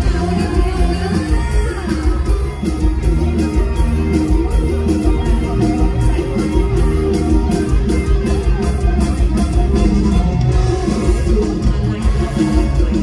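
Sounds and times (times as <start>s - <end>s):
driving drum beat: 0.0s - 13.0s
live band music: 0.0s - 13.0s
plucked guitar: 0.0s - 13.0s.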